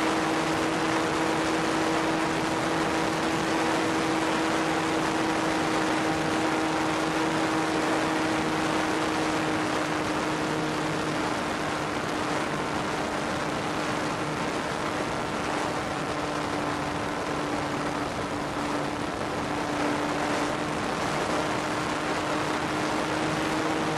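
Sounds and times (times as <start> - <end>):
model plane motor drone: 0.0 - 23.9
wind rush on microphone: 0.0 - 23.9.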